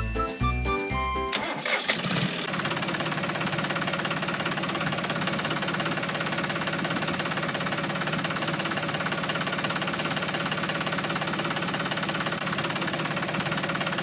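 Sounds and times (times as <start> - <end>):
small engine idling: 1.4 - 14.0.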